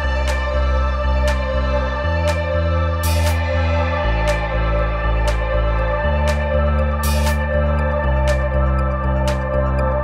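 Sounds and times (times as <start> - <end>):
steady bass: 0.0 - 10.0.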